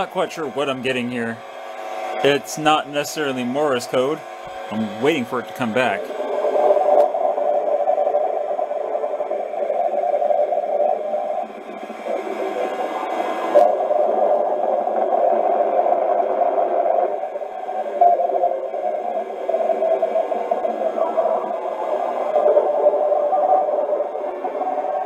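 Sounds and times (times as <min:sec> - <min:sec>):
hissy radio buzz: 0:00.0 - 0:25.0.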